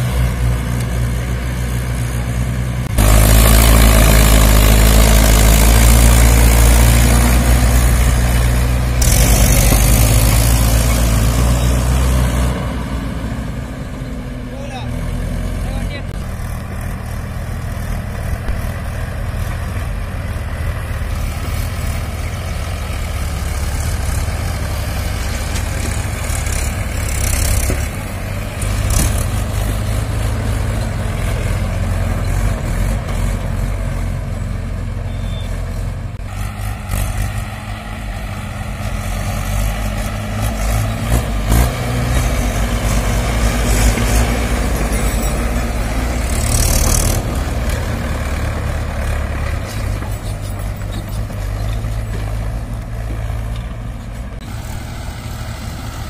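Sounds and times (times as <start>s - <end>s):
tractor engines under heavy load: 0.0s - 56.0s.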